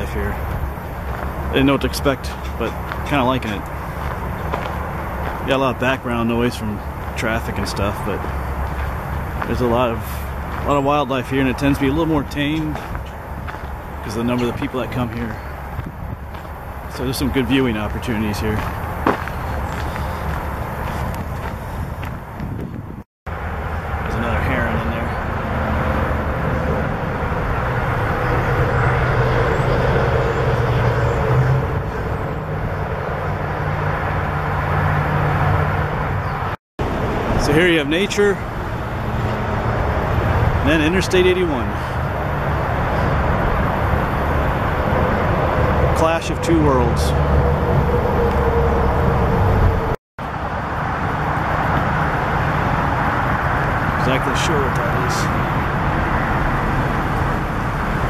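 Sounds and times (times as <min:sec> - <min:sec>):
distant highway traffic: 0:00.0 - 0:58.0
low engine hum: 0:00.0 - 0:58.0.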